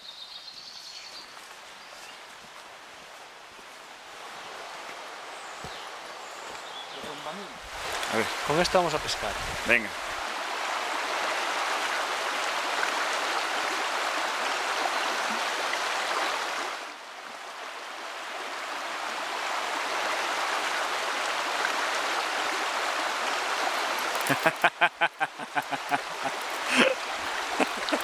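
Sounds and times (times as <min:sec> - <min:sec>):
river rushing over stones: 0:02.5 - 0:28.0.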